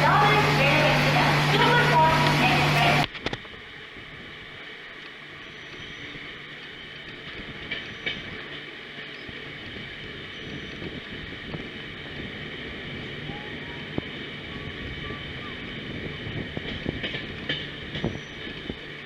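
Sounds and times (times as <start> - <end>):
passenger train running on track: 0.0 - 19.0
sharp clicks of train wheels: 0.0 - 19.0.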